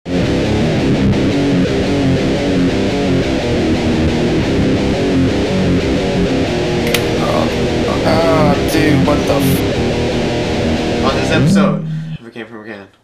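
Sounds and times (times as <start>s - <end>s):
strummed guitar music: 0.1s - 12.2s.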